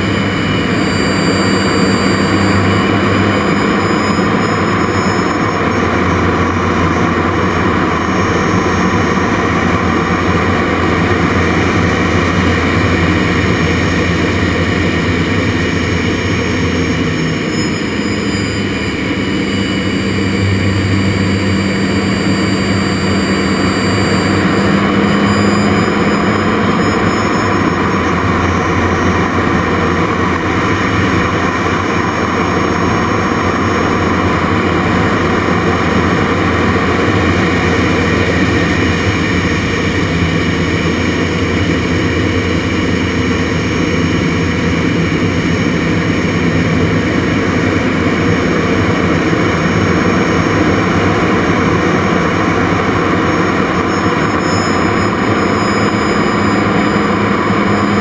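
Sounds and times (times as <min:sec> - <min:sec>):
high engine whine: 0:00.0 - 0:58.0
jet engine roar in cockpit: 0:00.0 - 0:58.0.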